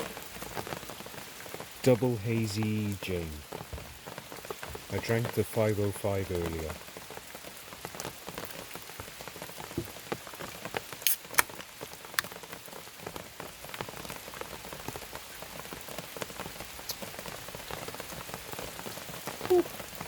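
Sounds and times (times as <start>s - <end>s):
rain falling on a tent: 0.0s - 20.0s.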